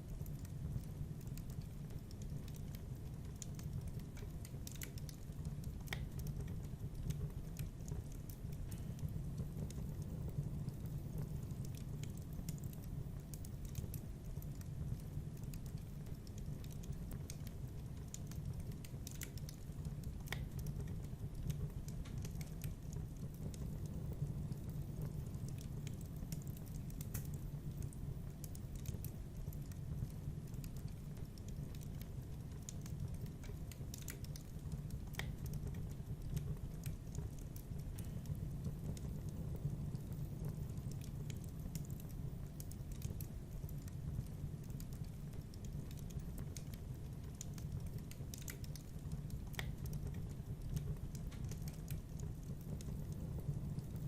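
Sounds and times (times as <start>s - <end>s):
fire crackling and snapping: 0.0s - 54.0s
low rumble of flames: 0.0s - 54.0s.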